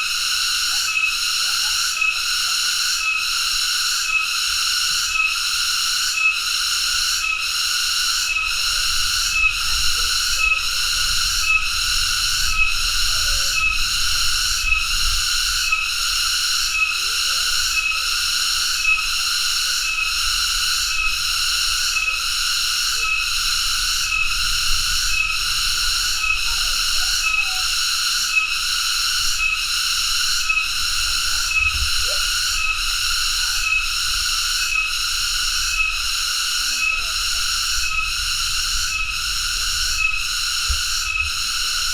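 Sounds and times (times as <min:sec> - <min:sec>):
cicada buzzing: 0:00.0 - 0:41.9.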